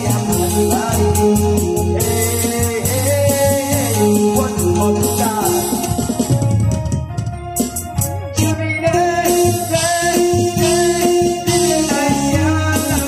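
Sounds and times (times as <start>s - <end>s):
person singing into microphone: 0.0s - 6.2s, 8.3s - 13.0s
backing music with keyboard and bass: 0.0s - 13.0s.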